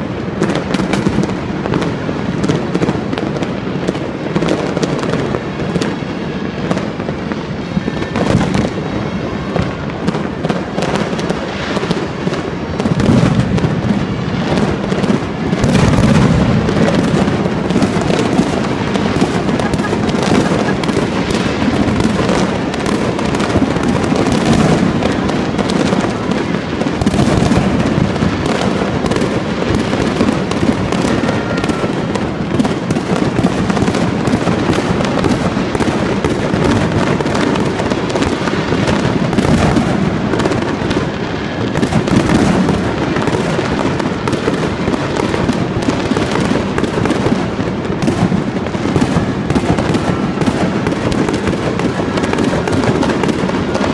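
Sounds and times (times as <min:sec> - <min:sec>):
fireworks bangs and pops: 0:00.0 - 0:53.9.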